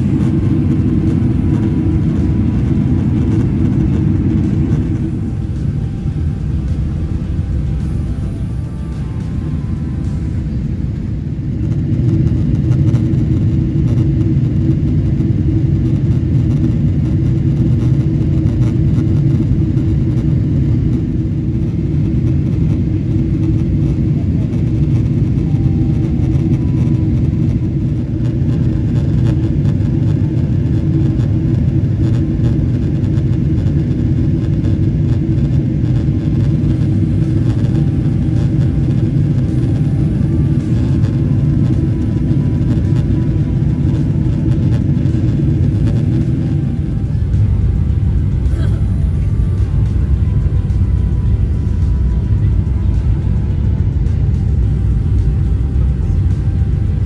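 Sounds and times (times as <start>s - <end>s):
airplane cabin engine and airflow rumble: 0.0s - 57.0s.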